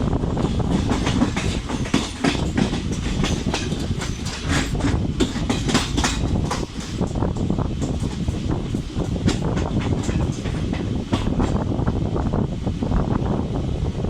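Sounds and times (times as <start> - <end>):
train coaches rumbling: 0.0 - 14.0
wheels clacking over rail joints: 0.2 - 12.4.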